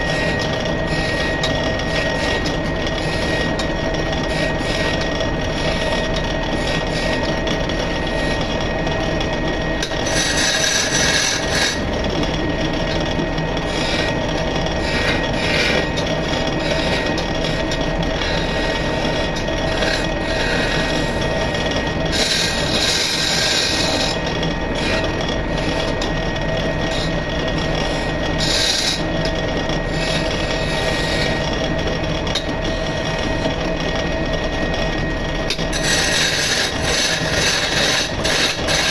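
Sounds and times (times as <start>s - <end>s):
chisel scraping spinning wood: 0.0s - 34.0s, 35.4s - 38.9s
wood lathe running: 0.0s - 38.9s.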